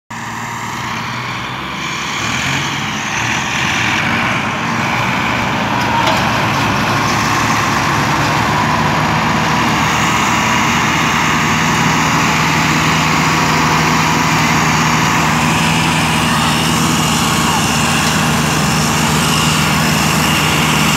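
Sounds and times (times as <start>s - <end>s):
tractor engines under load: 0.1s - 20.9s.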